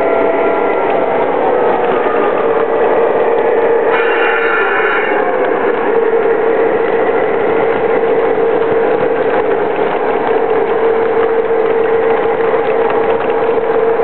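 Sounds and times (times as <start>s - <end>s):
model train hum: 0.0s - 14.0s
wheels clicking over rails: 0.0s - 14.0s.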